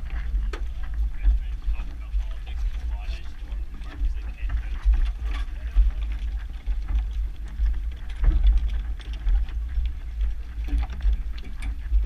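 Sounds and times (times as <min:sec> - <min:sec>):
light clicks and knocks of boat gear: 0:00.0 - 0:12.0
wind rumble on microphone: 0:00.0 - 0:12.0.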